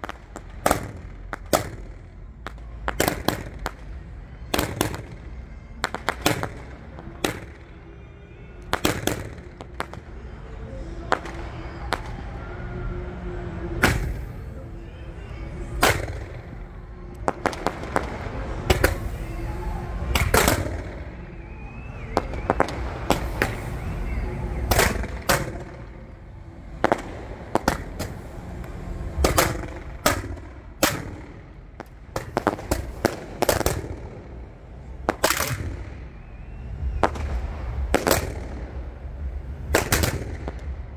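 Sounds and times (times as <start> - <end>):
fireworks sharp reports: 0.0 - 40.9
steady low background noise: 0.0 - 40.9.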